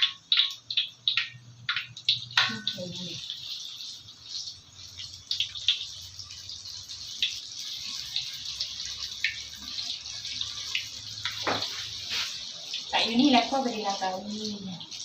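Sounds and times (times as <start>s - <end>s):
water running at a sink: 0.0s - 15.0s.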